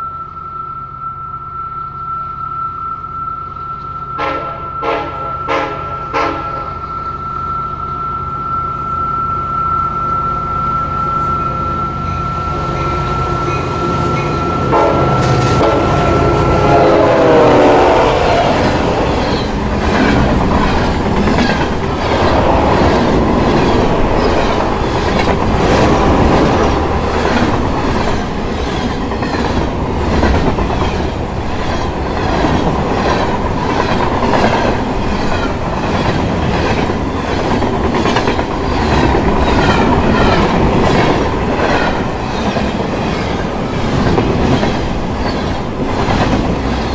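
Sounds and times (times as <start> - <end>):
metro train passing: 0.0 - 46.9
steady train tone: 0.0 - 46.9.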